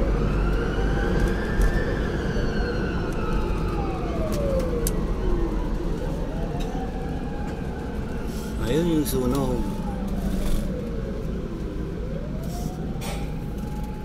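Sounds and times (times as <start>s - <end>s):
bus road and engine rumble: 0.0s - 14.0s.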